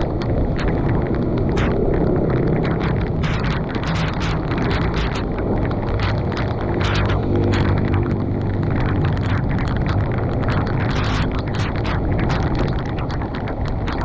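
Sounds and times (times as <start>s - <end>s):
sharp taps and clicks: 0.0s - 14.0s
storm noise: 0.0s - 14.0s
wind rumbling on microphone: 0.0s - 14.0s.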